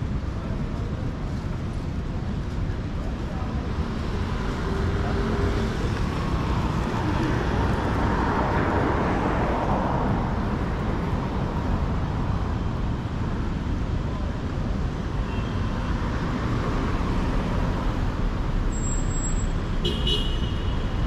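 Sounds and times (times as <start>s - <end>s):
car engines and tyres: 0.0s - 21.0s.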